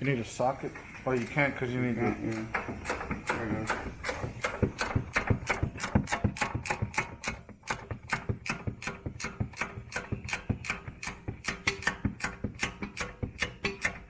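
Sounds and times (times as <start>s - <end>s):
socket ratchet clicking: 2.5s - 14.0s.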